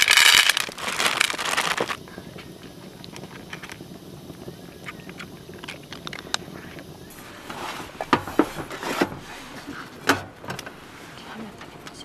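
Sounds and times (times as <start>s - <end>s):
rustling: 0.0s - 3.8s, 4.8s - 11.8s
wood stove fire crackling: 0.0s - 12.0s.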